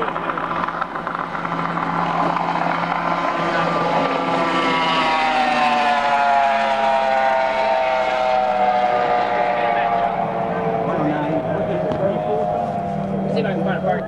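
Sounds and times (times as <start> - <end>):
race boat engine whine passing: 0.0 - 14.0.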